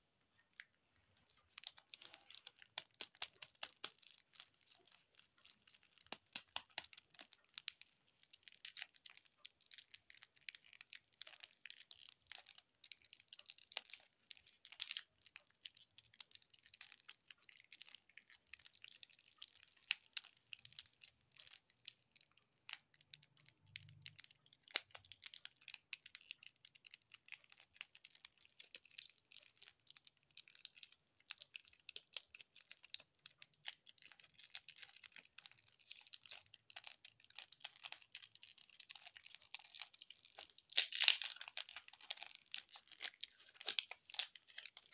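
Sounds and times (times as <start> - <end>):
plastic wrappers crinkling: 0.4 - 44.9.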